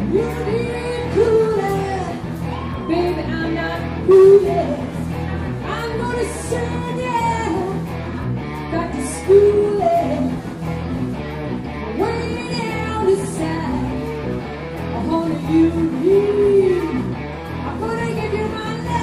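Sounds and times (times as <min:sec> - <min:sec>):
woman singing: 0:00.0 - 0:07.9, 0:08.7 - 0:10.5, 0:12.0 - 0:14.1, 0:14.9 - 0:19.0
drums: 0:00.0 - 0:19.0
electric guitar: 0:00.0 - 0:19.0.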